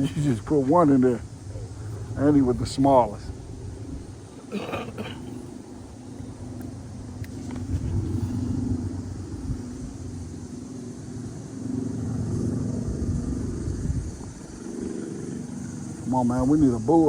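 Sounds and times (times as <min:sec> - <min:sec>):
faint wavering hum: 0:00.0 - 0:17.0.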